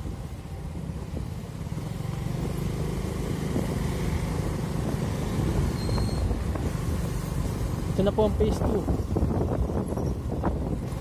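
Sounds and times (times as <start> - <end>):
motor vehicle rumbling on road: 0.0 - 11.0.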